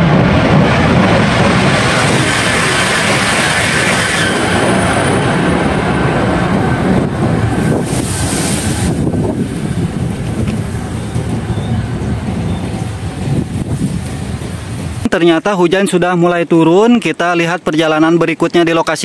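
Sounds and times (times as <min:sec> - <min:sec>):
electric train rushing past: 0:00.0 - 0:15.7
low train rumble in tunnel: 0:00.0 - 0:16.8.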